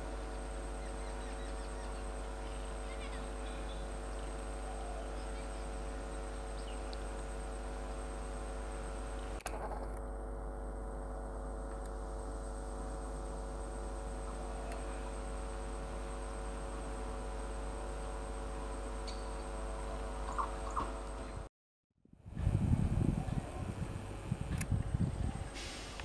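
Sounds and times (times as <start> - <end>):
steady electrical hum: 0.0 - 21.5, 22.1 - 26.0.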